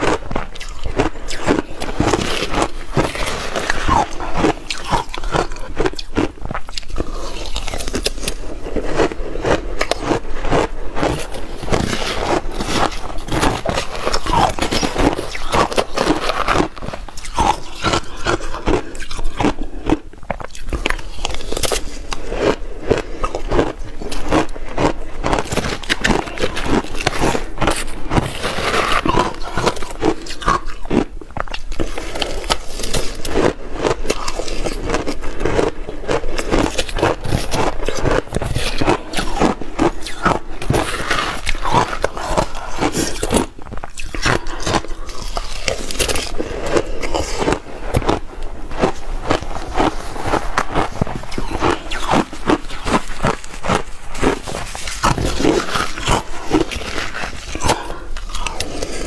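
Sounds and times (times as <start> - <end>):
chewing crushed ice: 0.0 - 59.0.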